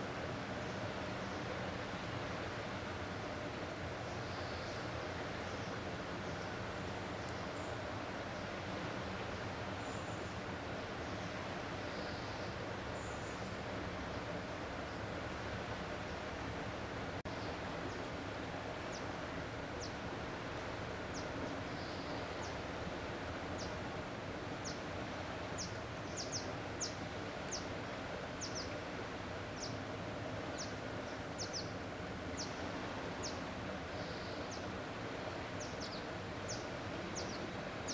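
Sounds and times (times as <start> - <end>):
shoreline background hiss: 0.0 - 37.9.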